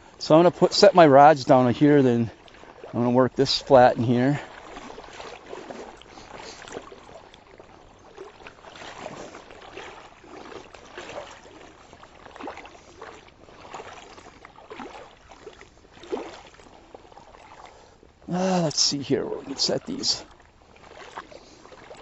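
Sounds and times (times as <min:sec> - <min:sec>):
legs sloshing through shallow water: 0:00.0 - 0:22.0.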